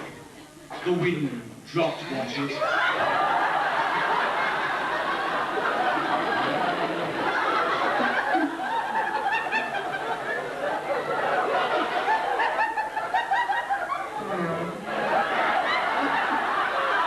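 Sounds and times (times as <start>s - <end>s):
audience laughing: 2.4s - 17.0s.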